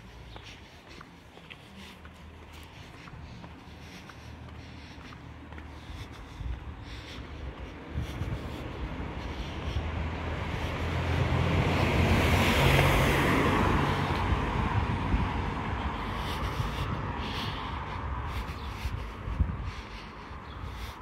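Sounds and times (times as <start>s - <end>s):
vehicle passing: 0.0s - 21.0s.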